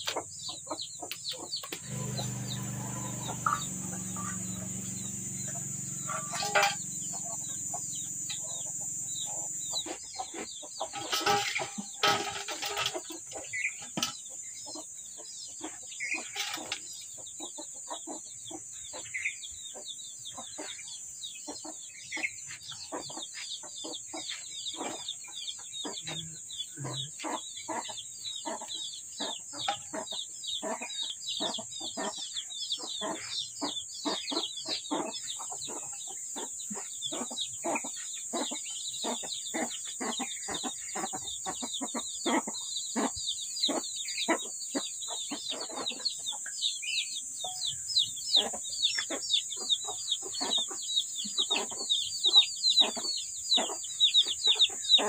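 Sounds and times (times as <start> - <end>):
chickens clucking and cheeping: 0.0 - 55.0.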